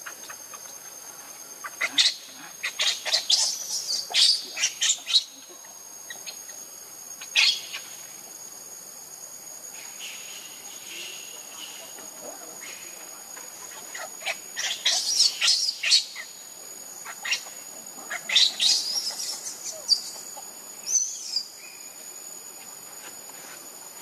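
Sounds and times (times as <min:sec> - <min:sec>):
insect drone: 0:00.0 - 0:24.0.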